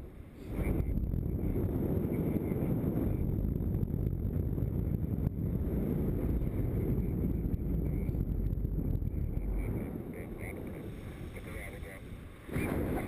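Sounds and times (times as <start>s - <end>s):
wind noise rumble: 0.0s - 13.0s.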